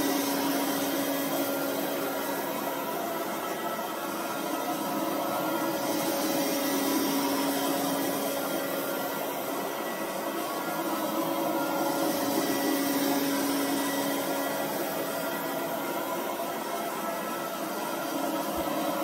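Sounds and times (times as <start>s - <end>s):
whirring brushes: 0.0s - 19.0s.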